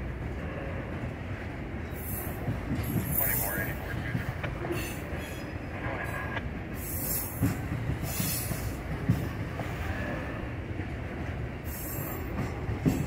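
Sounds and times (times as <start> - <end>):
train cars clanking: 0.0 - 13.0
train wheels rumbling on rail: 0.0 - 13.0.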